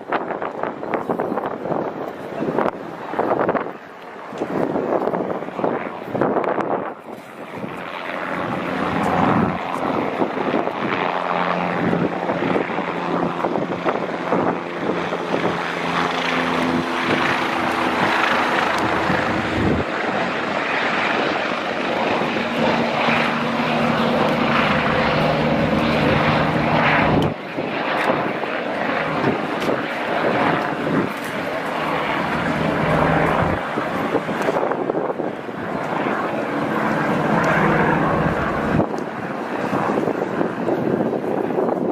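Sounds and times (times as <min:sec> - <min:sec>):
aircraft engine droning: 0:00.0 - 0:41.9.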